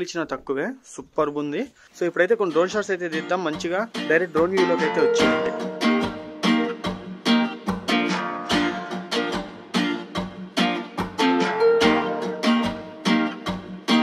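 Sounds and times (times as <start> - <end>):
plucked guitar music: 2.3 - 14.0.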